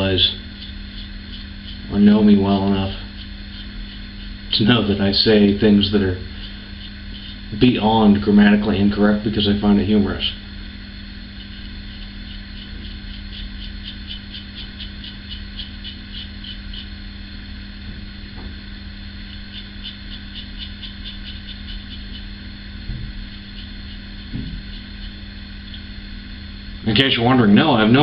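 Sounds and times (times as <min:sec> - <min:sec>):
razor blade scraping stubble: 0:00.0 - 0:09.6, 0:11.2 - 0:17.0, 0:19.1 - 0:26.2
steady background hum: 0:00.0 - 0:28.0.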